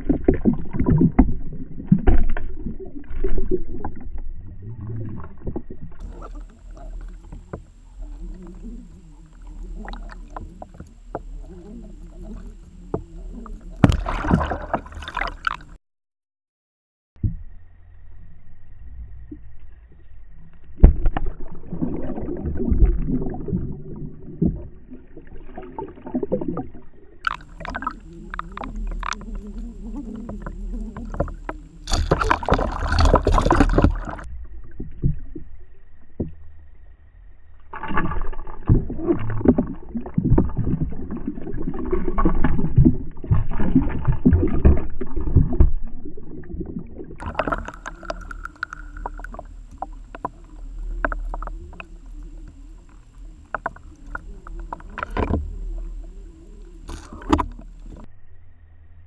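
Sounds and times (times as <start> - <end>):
knocks and clicks underwater: 0.0 - 15.8, 19.3 - 36.8, 37.6 - 58.1
low rushing water underwater: 0.0 - 15.8, 17.2 - 59.0
faint high whine: 3.4 - 15.8, 17.2 - 59.0.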